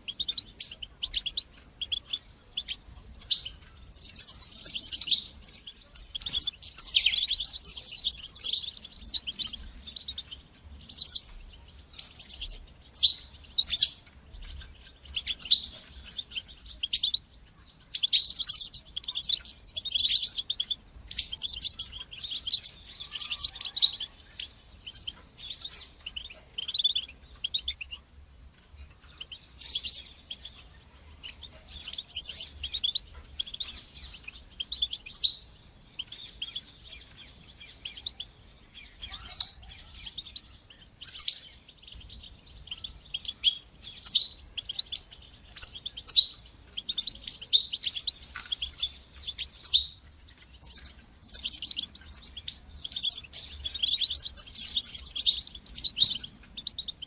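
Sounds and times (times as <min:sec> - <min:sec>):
goldfinch twittering song: 0:00.0 - 0:57.0.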